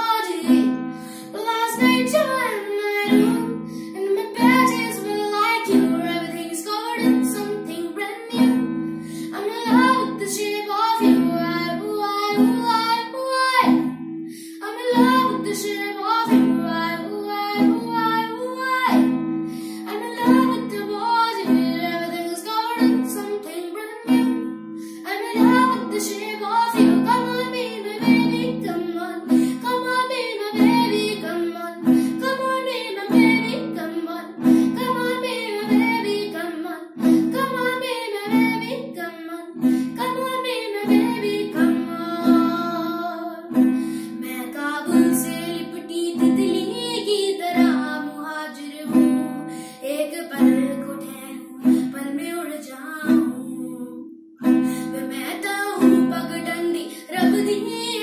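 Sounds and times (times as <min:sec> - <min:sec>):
child singing: 0:00.0 - 0:08.7, 0:09.3 - 0:14.0, 0:14.6 - 0:19.2, 0:19.8 - 0:54.0, 0:54.9 - 0:58.0
acoustic guitar strumming: 0:00.0 - 0:39.0, 0:39.6 - 0:47.9, 0:54.4 - 0:58.0.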